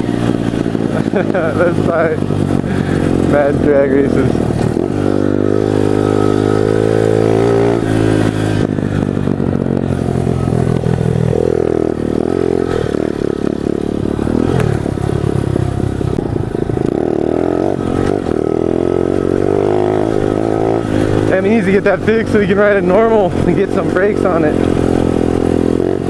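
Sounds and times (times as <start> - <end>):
pit bike engine running: 0.0 - 26.0.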